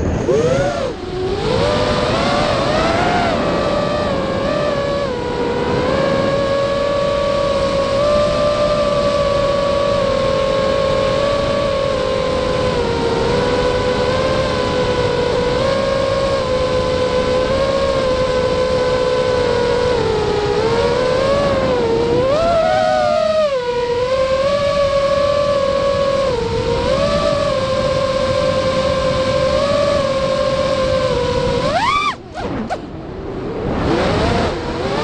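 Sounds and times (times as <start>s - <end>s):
drone propellers whining: 0.0s - 35.0s.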